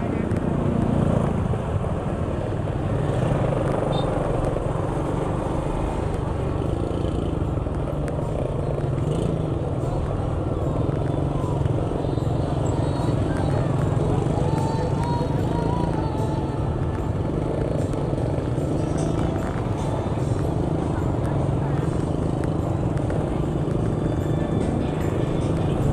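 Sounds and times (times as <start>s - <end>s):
road noise: 0.0s - 25.9s.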